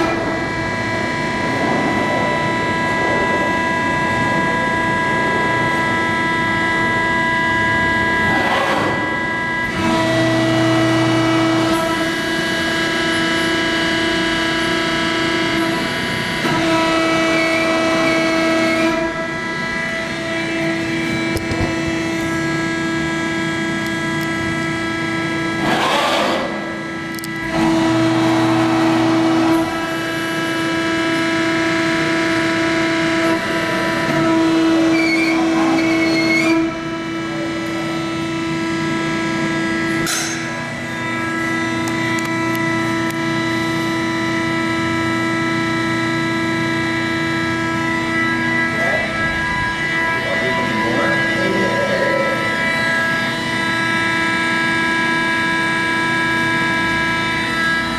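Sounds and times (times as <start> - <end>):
sustained synthesizer chords: 0.0 - 57.9.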